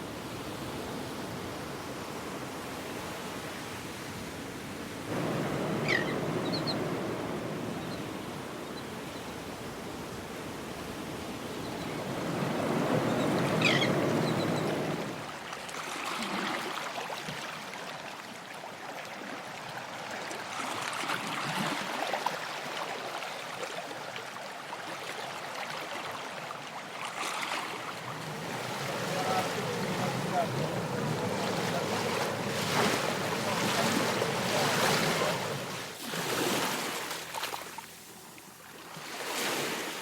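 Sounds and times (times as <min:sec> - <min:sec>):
ocean waves washing on shore: 0:00.0 - 0:40.0.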